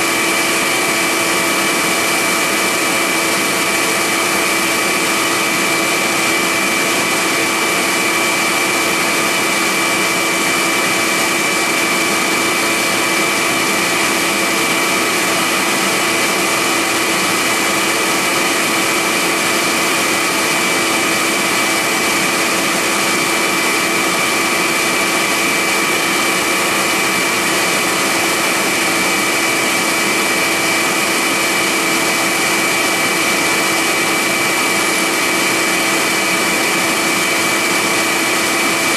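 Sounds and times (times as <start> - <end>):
milling machine cutting: 0.0 - 38.9
vacuum hose rushing: 0.1 - 38.9.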